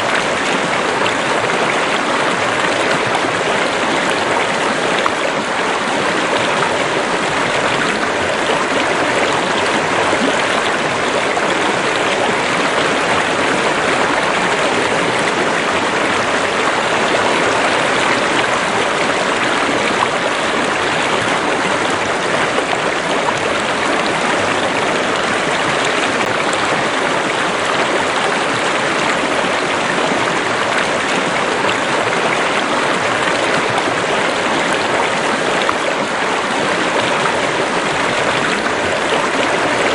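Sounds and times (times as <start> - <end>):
flowing water in a stream: 0.0 - 39.9.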